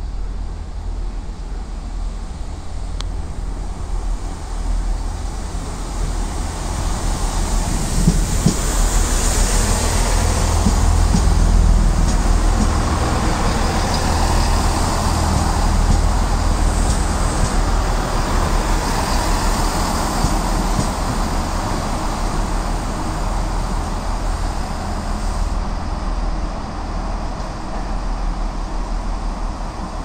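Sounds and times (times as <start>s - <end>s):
train passing rumble: 0.0s - 30.0s.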